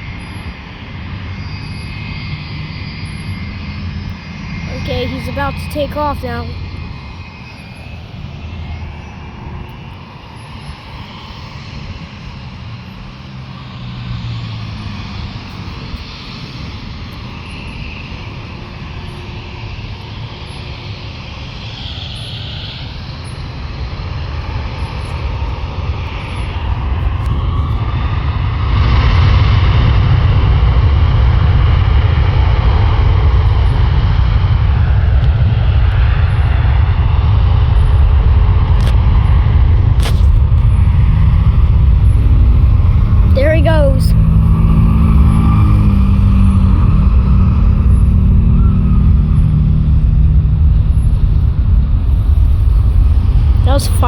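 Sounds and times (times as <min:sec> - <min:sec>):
faint jet engine whine: 0:00.0 - 0:54.0
jet engines rumbling: 0:00.0 - 0:54.0.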